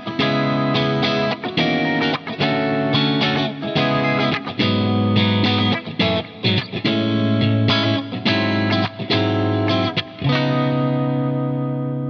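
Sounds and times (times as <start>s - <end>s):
electric guitar strummed chords: 0.0s - 12.0s.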